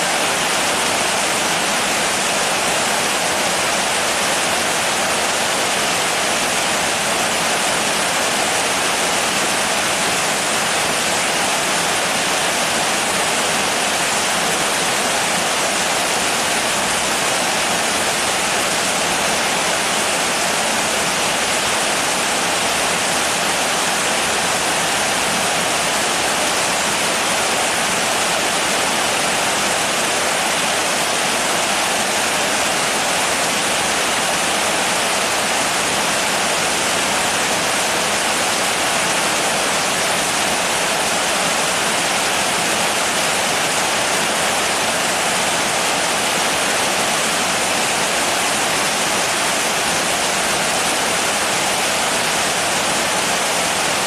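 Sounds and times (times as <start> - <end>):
steady dense rainfall: 0.0 - 54.0.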